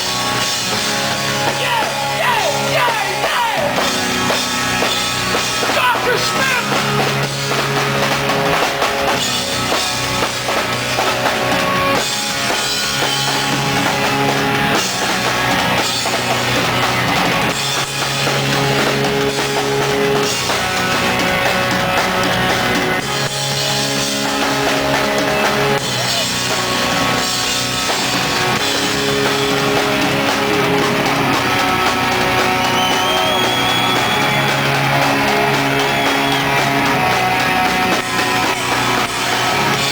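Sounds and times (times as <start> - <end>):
bass guitar: 0.0 - 39.9
electric guitar: 0.0 - 39.9
pounding drum kit: 0.0 - 39.9.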